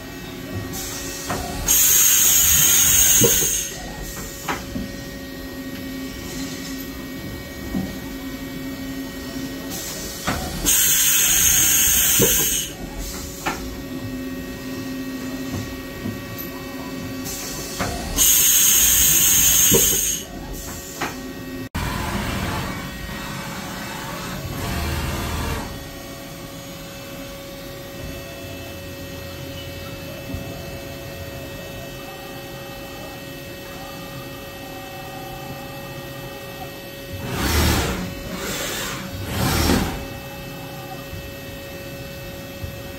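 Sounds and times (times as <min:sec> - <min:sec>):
steady machine hum: 0:00.0 - 0:42.9.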